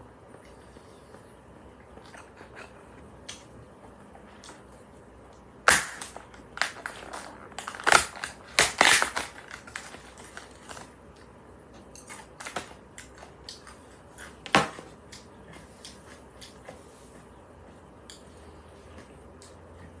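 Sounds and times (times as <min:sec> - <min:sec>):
crunchy chewing: 0:00.3 - 0:04.8, 0:06.2 - 0:20.0.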